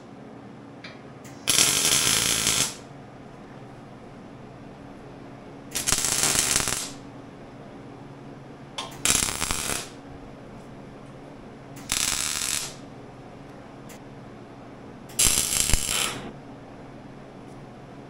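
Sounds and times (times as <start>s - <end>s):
low steady hum: 0.0s - 18.0s
arc welder crackling sizzle: 1.2s - 18.0s.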